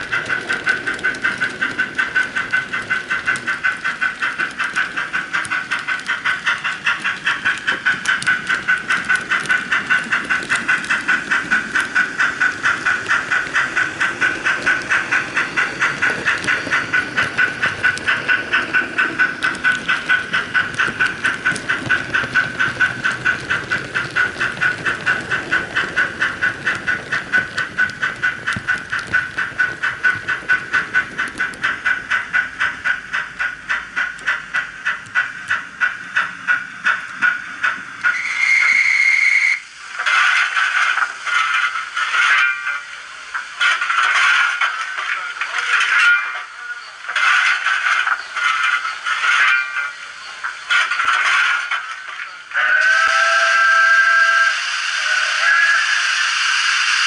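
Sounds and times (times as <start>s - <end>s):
model steam locomotive chuffing: 0.0s - 57.0s.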